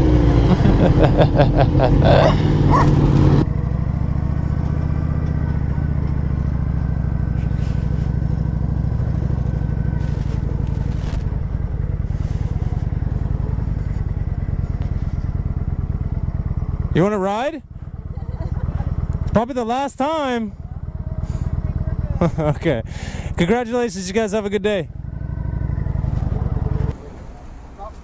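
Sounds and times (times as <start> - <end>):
motorcycle engine idling: 0.0 - 27.1.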